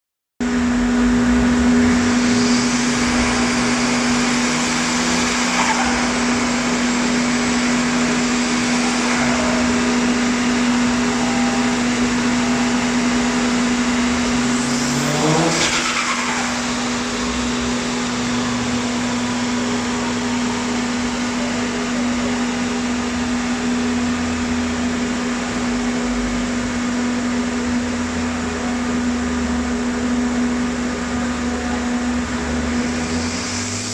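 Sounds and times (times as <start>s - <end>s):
car engine hum: 0.4s - 33.9s
turbo whine: 0.4s - 33.9s.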